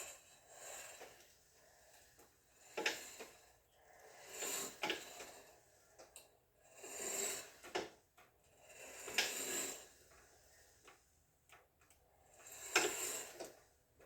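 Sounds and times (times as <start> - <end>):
wheelchair motors whirring: 0.0 - 11.2, 12.2 - 13.8.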